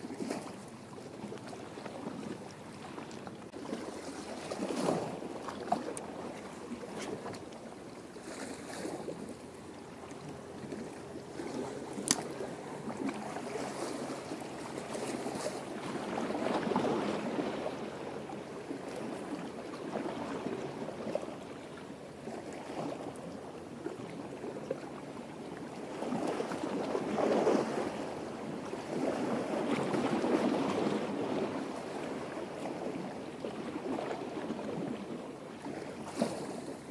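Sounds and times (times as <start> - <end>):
small waves lapping: 0.0 - 36.9.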